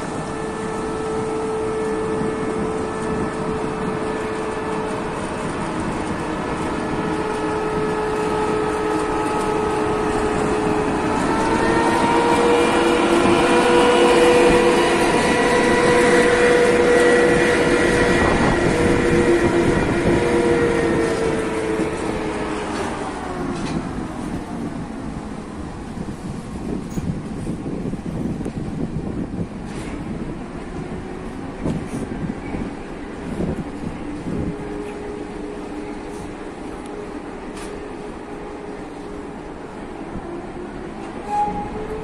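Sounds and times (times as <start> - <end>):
electric locomotive whine: 0.0 - 42.0
train coaches rolling past: 0.0 - 42.0.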